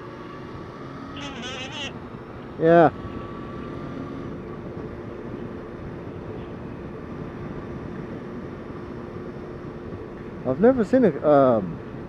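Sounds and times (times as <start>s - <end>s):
road noise: 0.0s - 12.0s
motorcycle engine hum: 0.2s - 10.4s.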